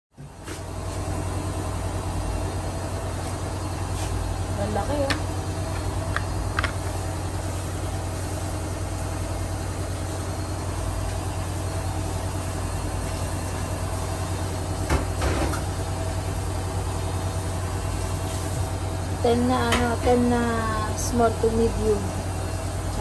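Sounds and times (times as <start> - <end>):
steady low hum: 0.2 - 23.0.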